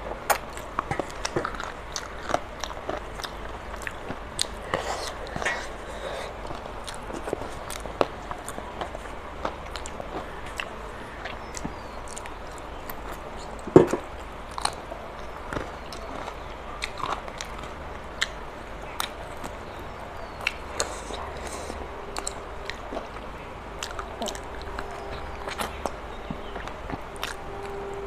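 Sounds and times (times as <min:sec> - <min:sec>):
chewing and biting food: 0:00.2 - 0:27.8.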